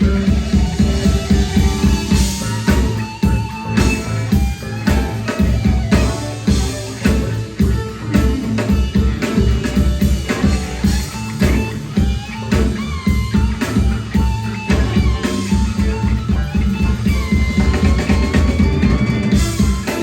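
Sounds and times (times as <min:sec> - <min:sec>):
bass guitar: 0:00.0 - 0:20.0
drum kit beat: 0:00.0 - 0:20.0
electric guitars: 0:00.0 - 0:20.0.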